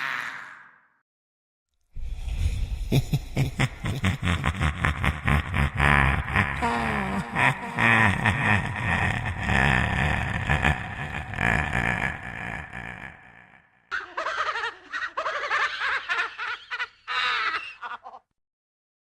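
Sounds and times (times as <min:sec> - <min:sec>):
deep voice laughing: 0:02.0 - 0:18.2.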